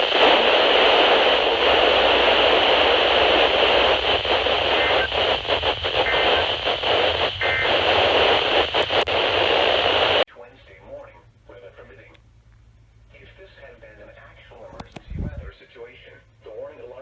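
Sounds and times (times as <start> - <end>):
radio static hiss: 0.0 - 12.3, 13.0 - 17.0.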